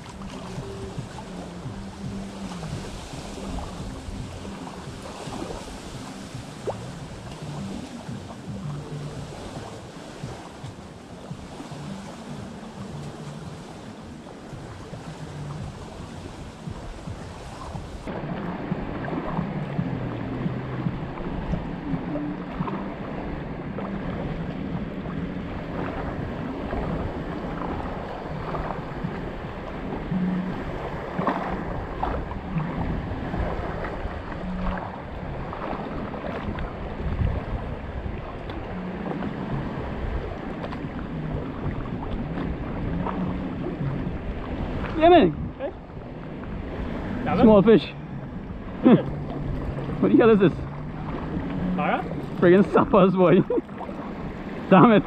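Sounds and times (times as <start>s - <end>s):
waves washing at shore: 0.0s - 55.0s
wind on microphone: 0.0s - 55.0s.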